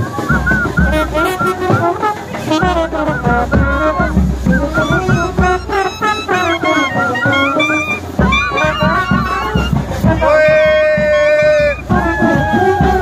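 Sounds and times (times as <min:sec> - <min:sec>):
brass band melody: 0:00.0 - 0:13.0
steady drum beat: 0:00.0 - 0:13.0.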